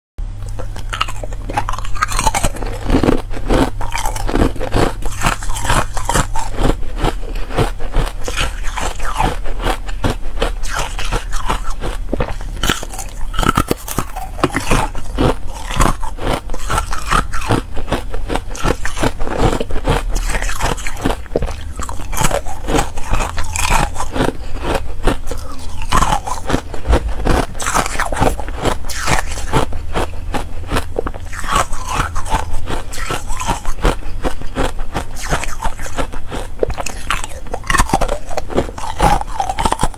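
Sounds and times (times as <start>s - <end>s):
ice crunching while chewed: 0.4s - 39.9s.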